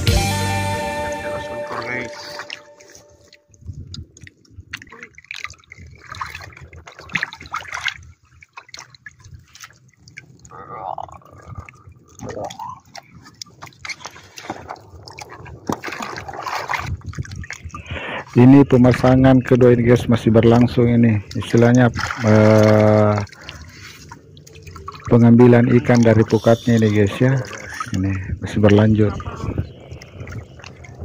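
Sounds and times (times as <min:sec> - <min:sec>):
water dripping and splashing: 0:01.7 - 0:31.0.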